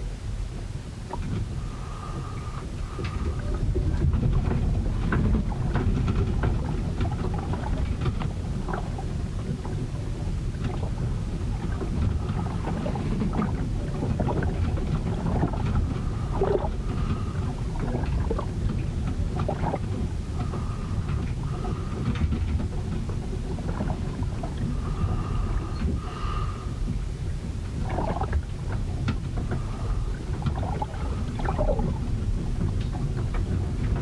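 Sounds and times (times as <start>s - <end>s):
rumble of wind and water: 0.0s - 34.0s.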